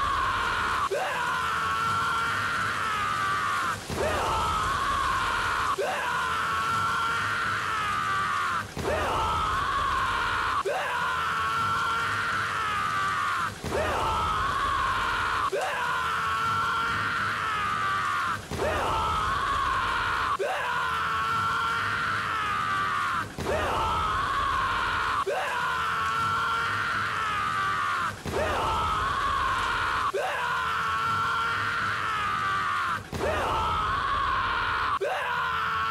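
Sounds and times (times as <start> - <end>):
man screaming: 0.0 - 35.9.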